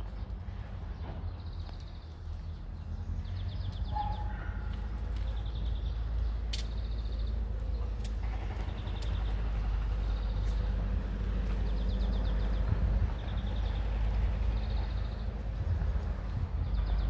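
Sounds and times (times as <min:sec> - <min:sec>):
low outdoor rumble: 0:00.0 - 0:17.0
birds chirping in trills: 0:00.1 - 0:17.0.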